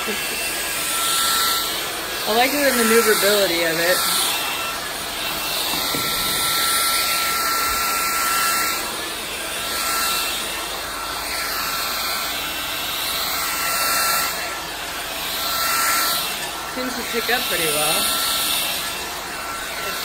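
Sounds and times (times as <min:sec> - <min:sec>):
cordless vacuum running on carpet: 0:00.0 - 0:20.0.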